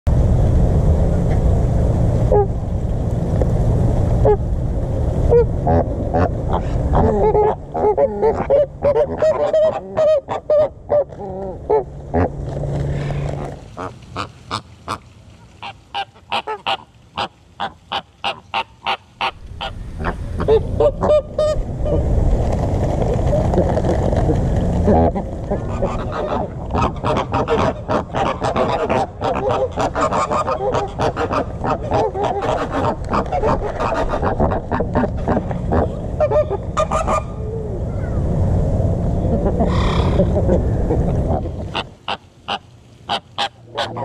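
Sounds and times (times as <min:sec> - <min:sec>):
wind rumble on microphone: 0:00.0 - 0:14.0, 0:19.2 - 0:42.2
flamingos honking: 0:02.3 - 0:02.6, 0:04.2 - 0:04.4, 0:05.2 - 0:12.4, 0:13.0 - 0:22.2, 0:23.1 - 0:37.4, 0:39.3 - 0:44.0.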